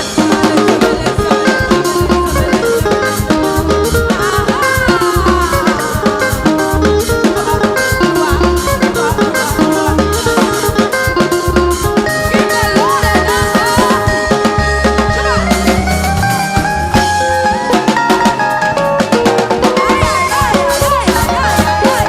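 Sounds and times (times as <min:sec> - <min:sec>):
drum kit beat: 0:00.0 - 0:22.0
gospel band music: 0:00.0 - 0:22.0
held melodic notes bending pitch: 0:00.0 - 0:22.0.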